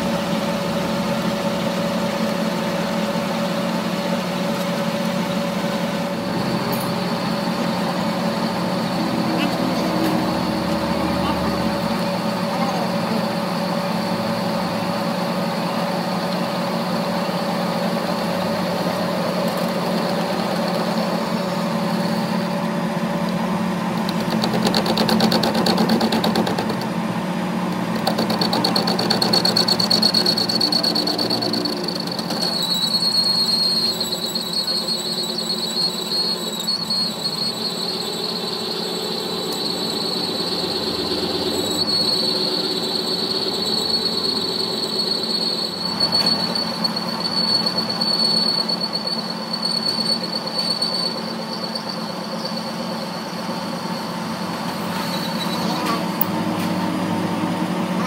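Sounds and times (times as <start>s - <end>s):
metal lathe humming: 0.0s - 50.0s
high-pitched cutting squeal: 2.6s - 23.2s, 28.0s - 56.2s.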